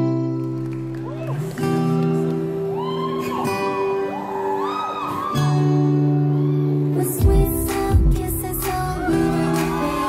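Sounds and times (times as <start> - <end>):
electronic pop music: 0.0 - 10.0.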